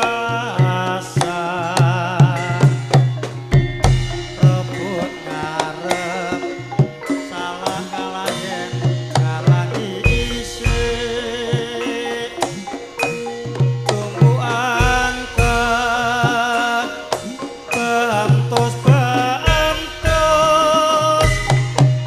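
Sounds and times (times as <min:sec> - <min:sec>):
hand drum strokes: 0:00.0 - 0:22.0
ringing pitched gong tones: 0:00.0 - 0:22.0
wavering melody with vibrato: 0:00.0 - 0:22.0.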